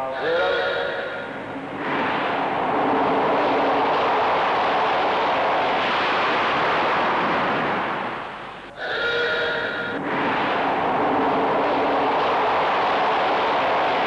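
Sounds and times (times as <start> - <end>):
steady multi-tone whine: 0.0 - 14.0
loud rushing noise: 0.2 - 8.8, 9.4 - 14.0.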